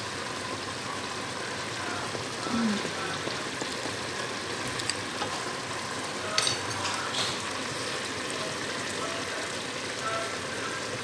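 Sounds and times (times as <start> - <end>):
stew sizzling in a pan: 0.0 - 11.0.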